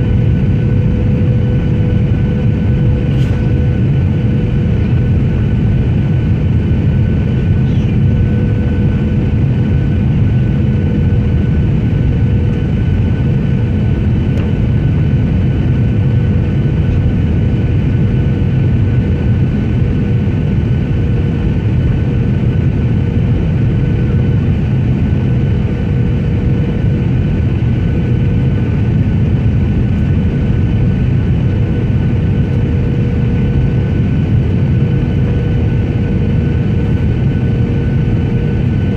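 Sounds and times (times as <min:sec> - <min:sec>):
airliner engine roar in cabin: 0:00.0 - 0:38.9.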